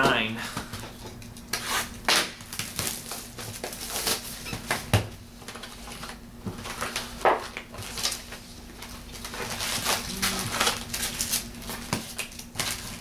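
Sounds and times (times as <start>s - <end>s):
wrapping and cardboard crackling: 1.5s - 4.8s, 5.4s - 13.0s.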